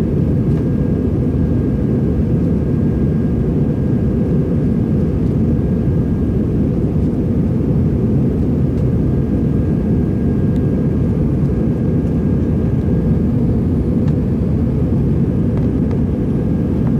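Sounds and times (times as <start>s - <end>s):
jet engines and airflow rumble: 0.0s - 16.9s.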